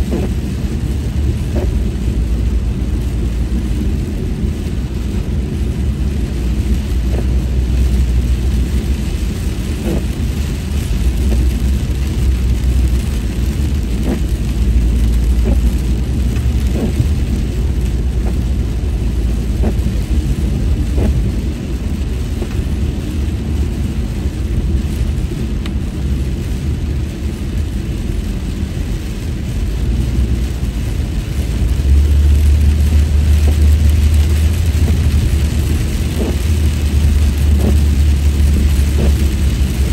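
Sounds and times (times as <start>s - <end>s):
car road rumble: 0.0s - 39.9s
tyre hiss on wet road: 0.0s - 39.9s.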